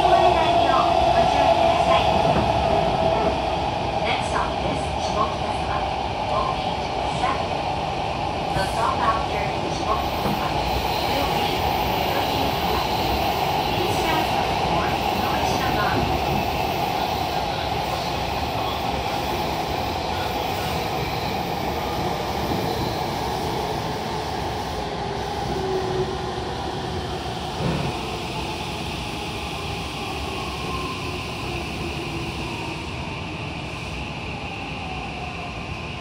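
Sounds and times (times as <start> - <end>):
electric train running in tunnel: 0.0 - 36.0.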